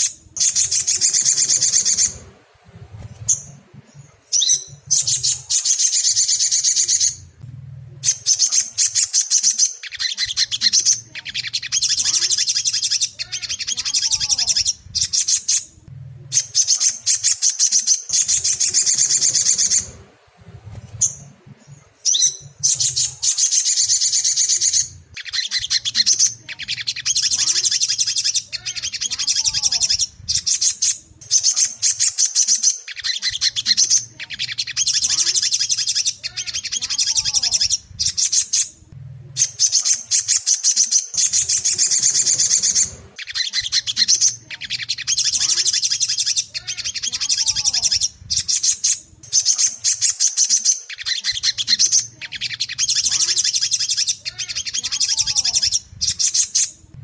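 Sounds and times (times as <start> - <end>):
bird high-pitched chattering: 0.0 - 7.4, 8.0 - 56.9.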